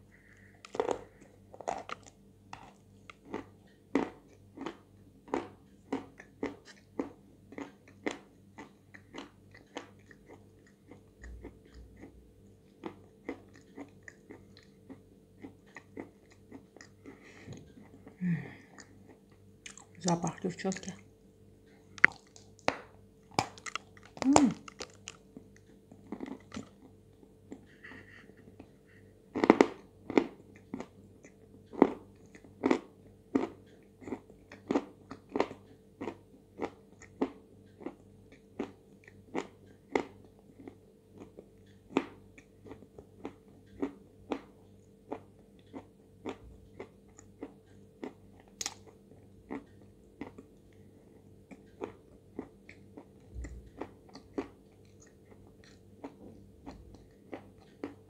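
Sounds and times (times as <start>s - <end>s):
crunchy chewing of chalk: 0.2s - 21.0s, 21.6s - 58.0s.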